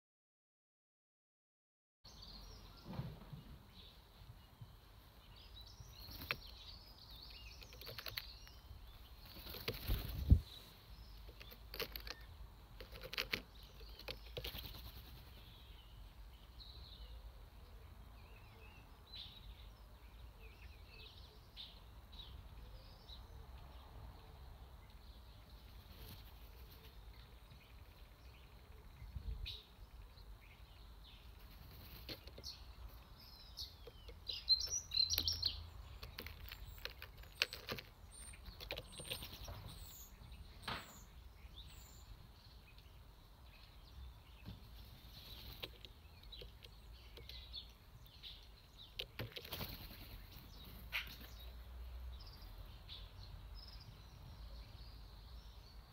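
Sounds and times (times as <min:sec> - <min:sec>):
birds chirping: 0:02.0 - 0:55.9.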